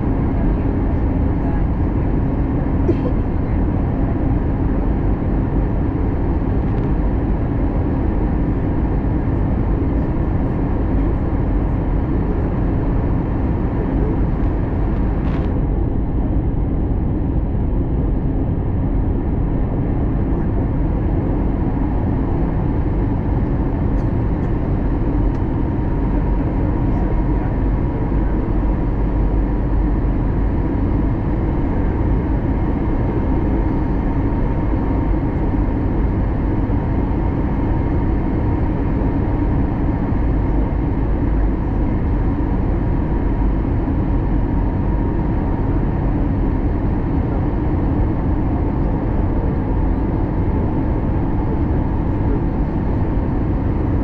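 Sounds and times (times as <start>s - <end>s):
jet engines droning: 0.0s - 54.0s
steady low hum: 0.0s - 54.0s.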